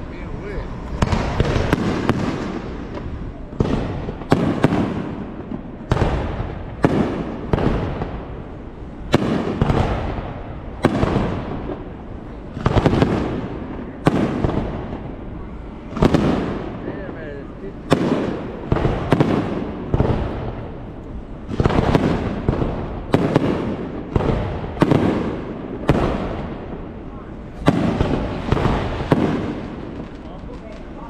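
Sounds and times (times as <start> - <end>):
fireworks bangs with rumble: 0.0 - 31.0.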